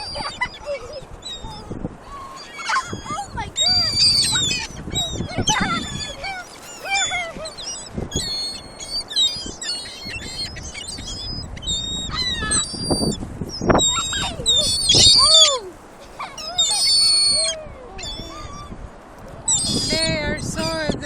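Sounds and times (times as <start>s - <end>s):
gulls calling: 0.0s - 21.0s.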